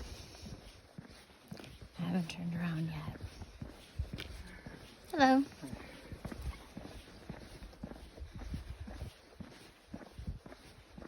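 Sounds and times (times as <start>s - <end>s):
footsteps on trail: 0.0s - 11.0s.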